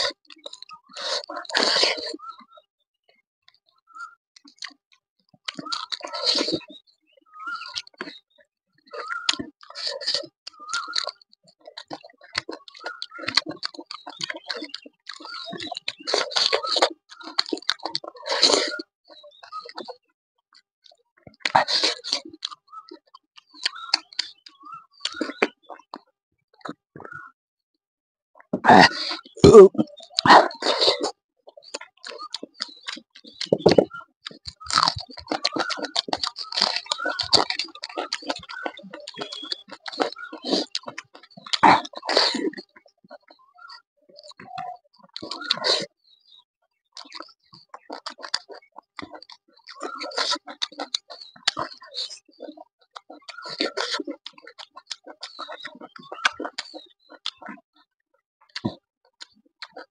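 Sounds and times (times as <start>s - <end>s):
wet chewing and mouth clicks: 0.0s - 27.3s, 28.4s - 59.9s.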